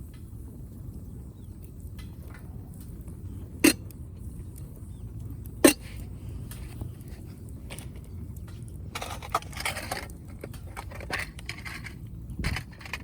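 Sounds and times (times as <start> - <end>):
fire popping sharply: 0.0 - 13.0
firewood crackling: 0.0 - 13.0.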